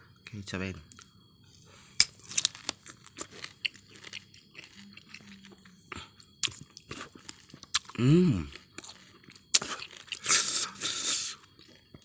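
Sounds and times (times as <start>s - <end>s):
person chewing a lime: 1.9s - 12.0s.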